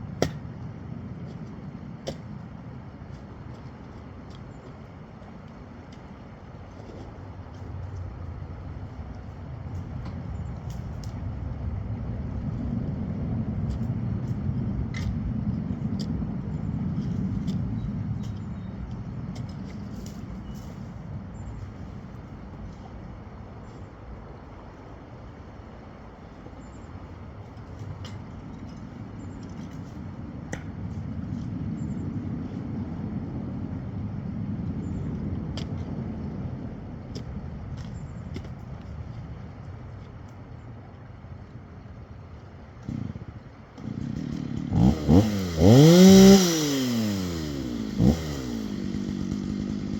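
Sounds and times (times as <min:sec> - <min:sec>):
motor vehicle rumble: 0:00.0 - 0:49.9.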